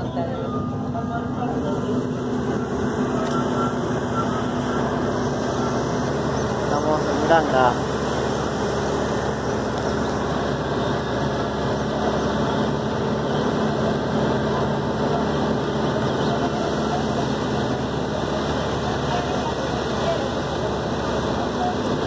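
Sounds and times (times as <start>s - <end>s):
bus engine running: 0.0s - 22.0s
road noise: 0.0s - 22.0s.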